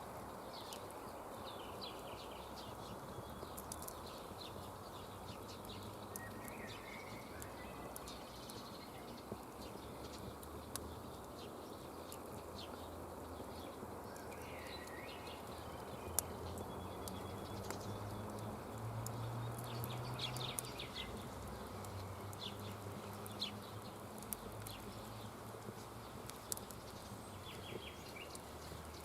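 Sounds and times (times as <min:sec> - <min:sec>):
faint clicks and crackles: 0:00.0 - 0:29.0
small birds chirping: 0:00.0 - 0:29.0.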